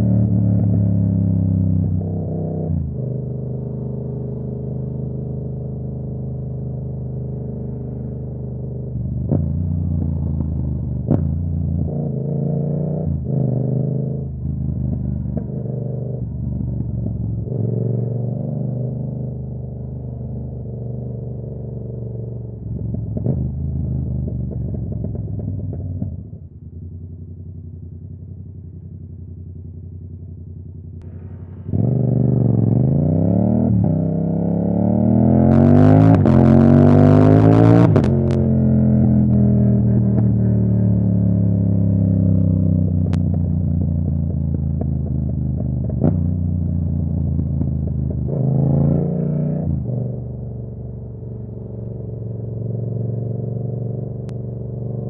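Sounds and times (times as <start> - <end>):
motorcycle engine running: 0.0 - 18.4, 19.2 - 55.0.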